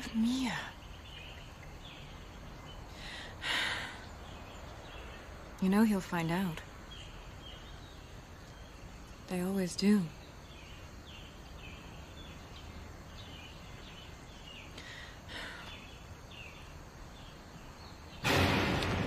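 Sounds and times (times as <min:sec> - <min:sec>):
bird chirping faintly: 0:00.0 - 0:18.3
low background hiss: 0:00.0 - 0:19.0.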